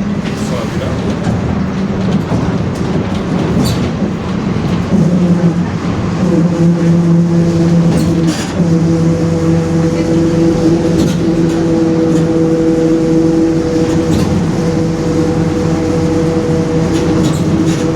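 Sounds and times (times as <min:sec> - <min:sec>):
bus differential whine: 0:00.0 - 0:17.9
bus running noise: 0:00.0 - 0:17.9.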